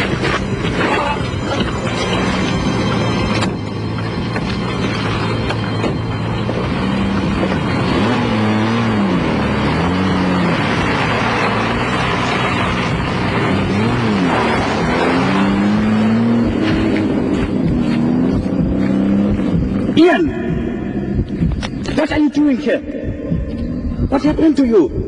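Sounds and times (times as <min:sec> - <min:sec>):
car engine revving: 0:00.0 - 0:25.0
traffic noise: 0:00.0 - 0:25.0.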